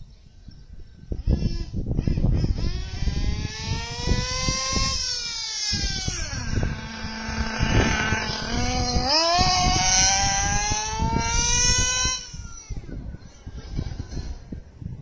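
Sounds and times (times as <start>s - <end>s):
radio-controlled car engine revving: 1.2s - 13.4s.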